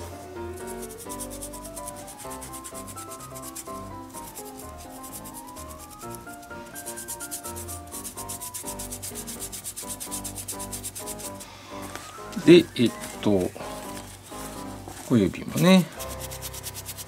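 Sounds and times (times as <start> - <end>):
leather being rubbed: 0.0 - 17.0
quiet background music: 0.0 - 17.0.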